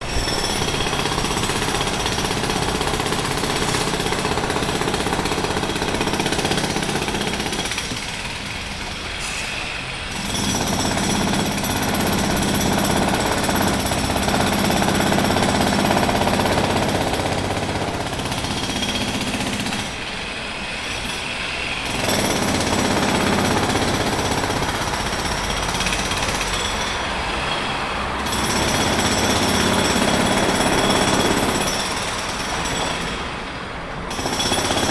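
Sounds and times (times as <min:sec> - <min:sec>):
jackhammer hammering: 0:00.0 - 0:09.0, 0:10.1 - 0:20.0, 0:21.8 - 0:27.0, 0:28.2 - 0:34.9.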